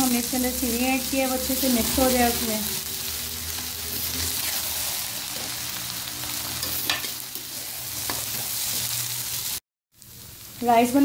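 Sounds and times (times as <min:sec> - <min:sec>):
rice sizzling in hot oil: 0:00.0 - 0:11.0.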